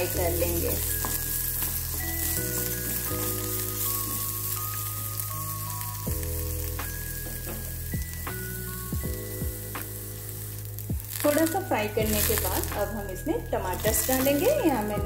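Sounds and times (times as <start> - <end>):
oil sizzling: 0.0 - 15.0
slow background music: 0.0 - 15.0.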